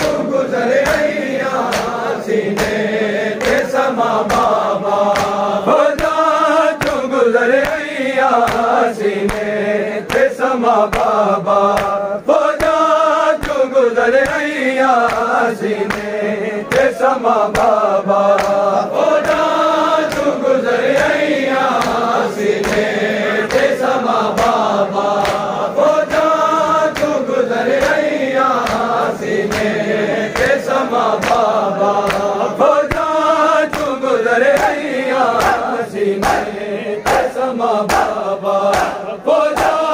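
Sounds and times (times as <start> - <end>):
hand slaps on bare chests: 0.0 - 39.9
men chanting in unison: 0.0 - 39.9.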